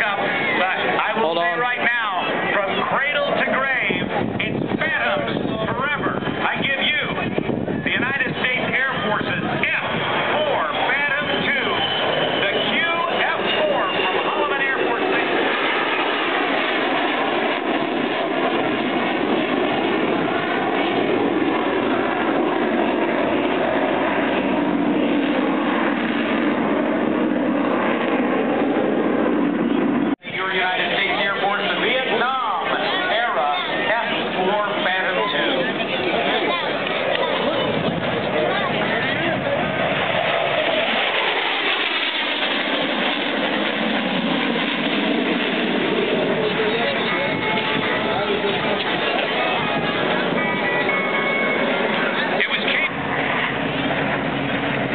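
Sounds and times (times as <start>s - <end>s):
jet engine roar: 0.0s - 54.9s.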